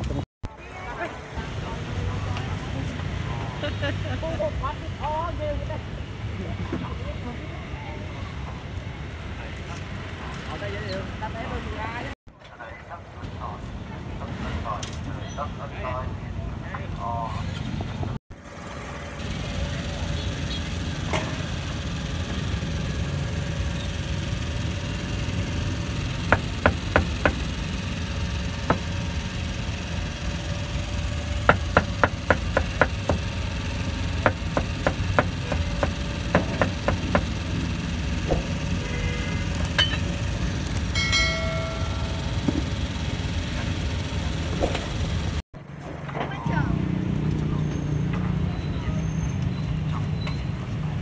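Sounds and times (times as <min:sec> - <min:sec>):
engines and traffic rumble: 0:00.0 - 0:51.0.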